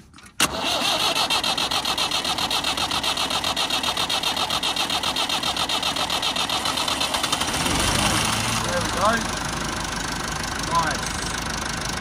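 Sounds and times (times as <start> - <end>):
starter motor cranking diesel engine: 0.4 - 12.0.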